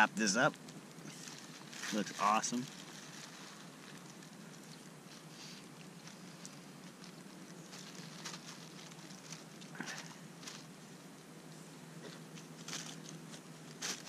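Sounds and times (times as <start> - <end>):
close-up rustling: 0.1 - 14.0.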